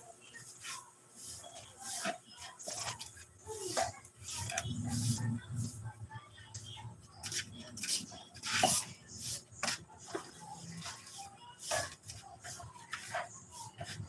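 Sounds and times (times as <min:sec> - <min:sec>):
broom sweeping concrete floor: 0:00.2 - 0:06.0, 0:06.6 - 0:14.0.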